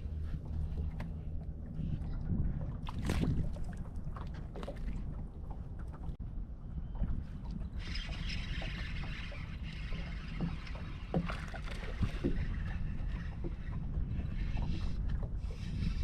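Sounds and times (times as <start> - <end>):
boat knocks and clicks: 0.0 - 6.2, 8.4 - 15.4
wind buffeting microphone: 0.0 - 16.0.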